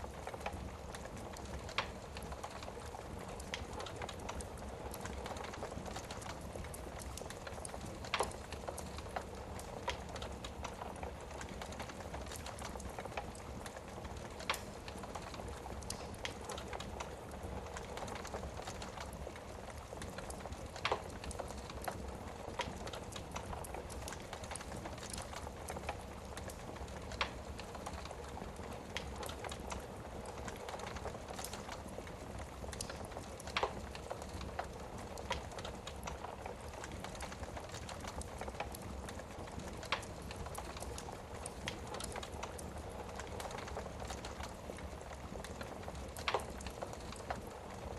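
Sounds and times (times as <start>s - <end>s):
wood fire hissing and crackling: 0.0s - 47.9s.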